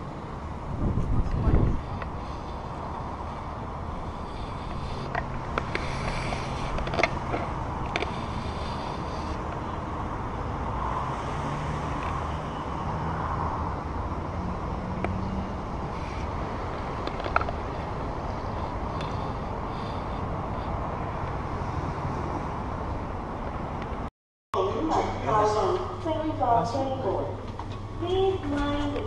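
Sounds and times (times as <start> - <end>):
low engine hum: 0.0 - 26.4.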